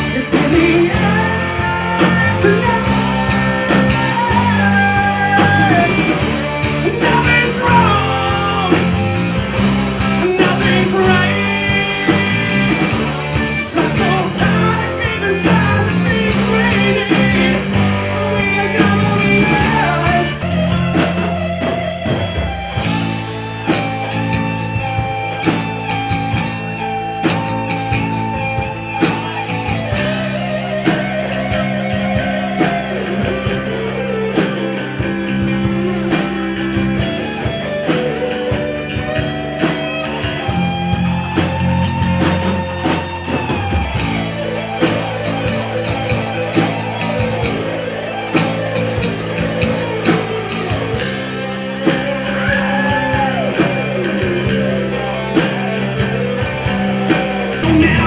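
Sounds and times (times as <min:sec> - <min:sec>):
drum kit beat: 0:00.0 - 0:58.0
electric guitar: 0:00.0 - 0:58.0
gliding lead melody: 0:00.0 - 0:58.0
rock music: 0:00.0 - 0:58.0.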